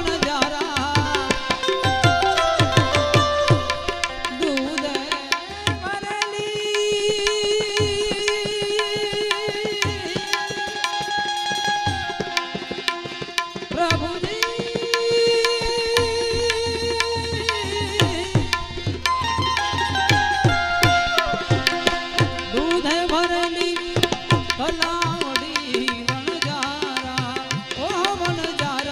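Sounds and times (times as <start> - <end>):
harmonium held notes: 0.0 - 28.9
tabla rhythm: 0.0 - 28.9.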